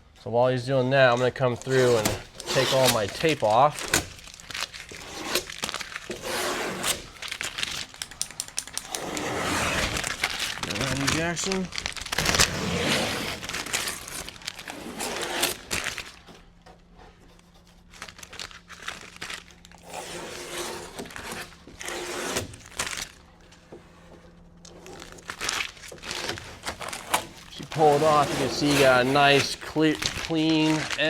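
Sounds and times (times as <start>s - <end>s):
masking tape peeling and crumpling: 1.1s - 23.6s, 24.5s - 31.0s.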